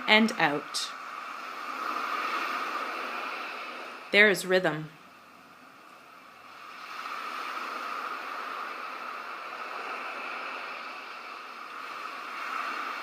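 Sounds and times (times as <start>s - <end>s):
ocean surf washing in: 0.0s - 13.0s.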